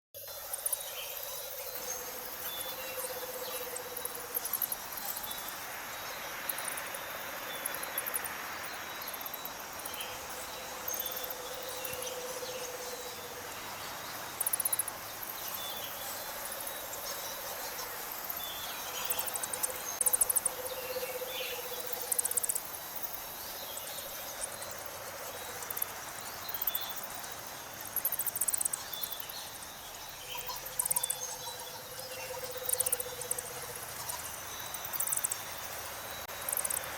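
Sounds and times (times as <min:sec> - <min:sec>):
insects chirring: 0:00.2 - 0:36.9.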